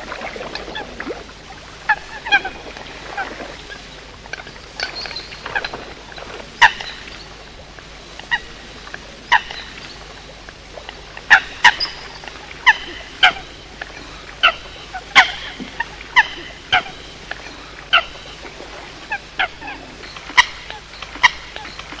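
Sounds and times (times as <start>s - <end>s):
coots honking calls: 0.1s - 7.5s, 10.9s - 22.0s.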